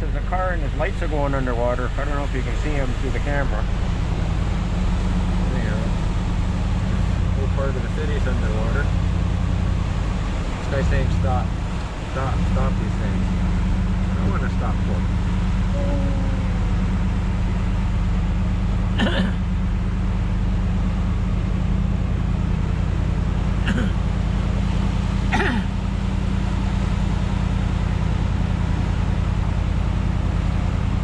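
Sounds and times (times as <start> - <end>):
truck engine driving through water: 0.0 - 31.0.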